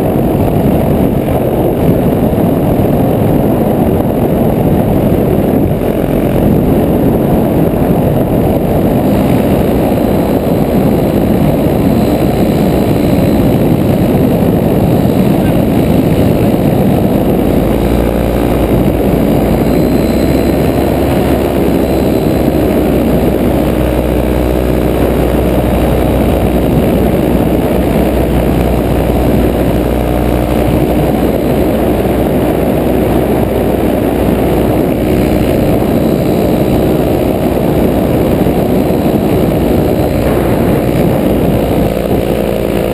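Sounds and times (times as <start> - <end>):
paramotor engine and propeller: 0.0 - 42.9.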